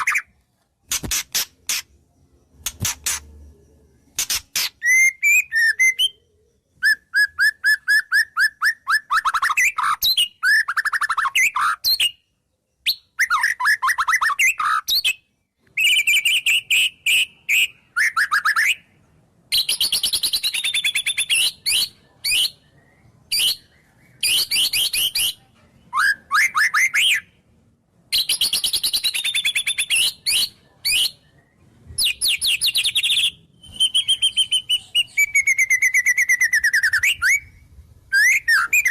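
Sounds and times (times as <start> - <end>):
songbird singing varied song: 1.8 - 38.9.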